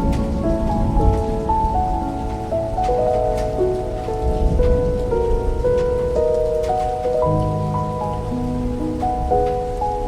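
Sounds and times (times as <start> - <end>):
calm meditation music: 0.0 - 10.0
steady rain falling: 0.0 - 10.0.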